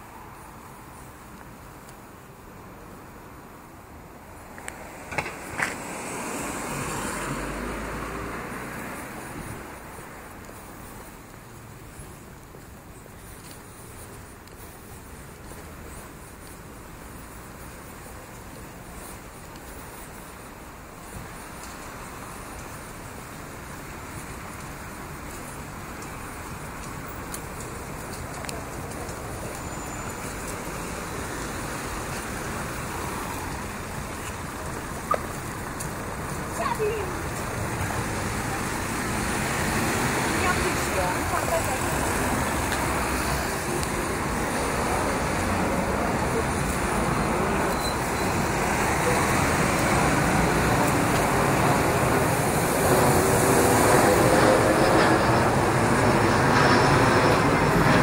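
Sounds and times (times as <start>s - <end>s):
city traffic noise: 0.0s - 58.0s
bus passing: 4.1s - 58.0s.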